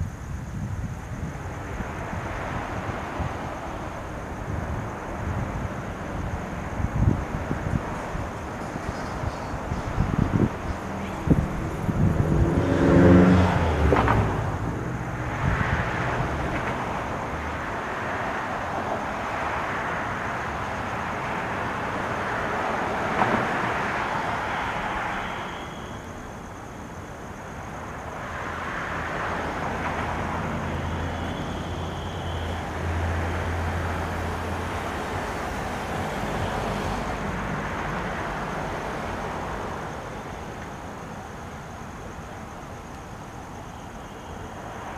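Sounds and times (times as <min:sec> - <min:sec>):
cars passing: 0:00.0 - 0:44.9.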